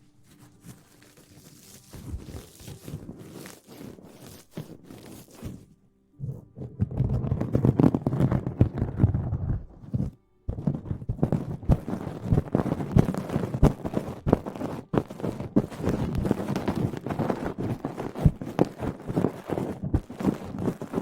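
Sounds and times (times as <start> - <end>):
rustling against microphone: 0.0 - 21.0.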